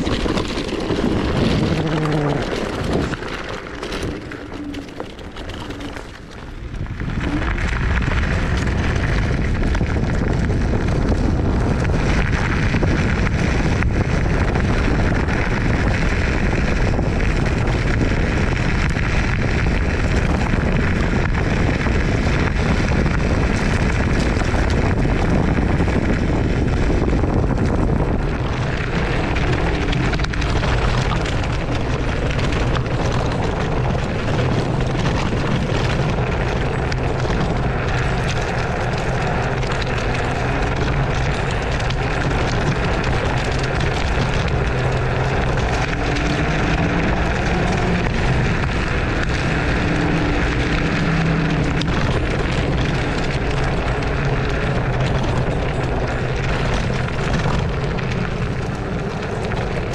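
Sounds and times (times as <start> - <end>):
tyre noise on rough dirt: 0.0 - 59.9
wind rushing on microphone: 0.0 - 59.9.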